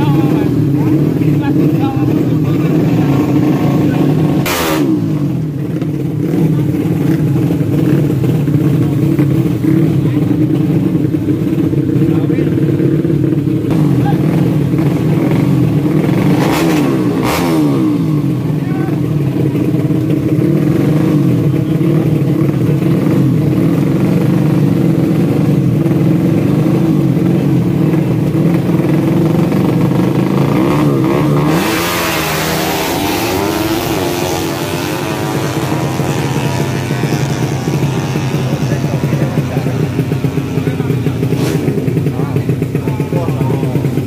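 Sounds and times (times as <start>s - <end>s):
motorcycle engines running: 0.0s - 44.0s.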